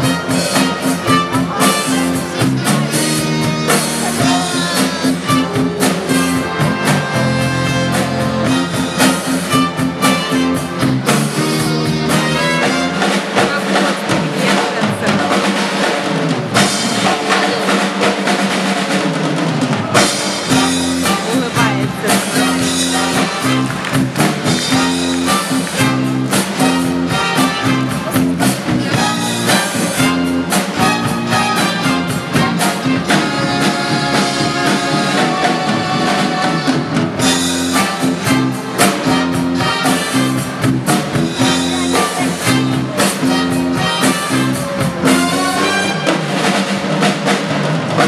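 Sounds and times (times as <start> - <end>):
drum kit beat: 0.0 - 48.0
upbeat band music: 0.0 - 48.0.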